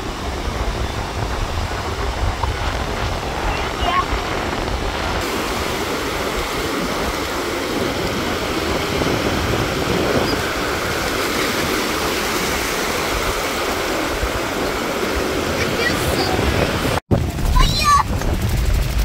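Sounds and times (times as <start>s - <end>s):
surf breaking on beach: 0.0s - 18.6s
wind buffeting microphone: 0.0s - 19.0s.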